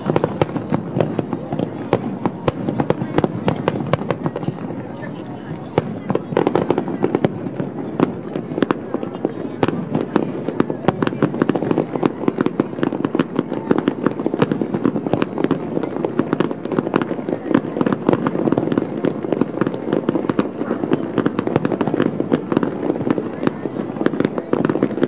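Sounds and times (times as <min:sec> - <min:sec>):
fireworks popping and crackling: 0:00.0 - 0:25.0.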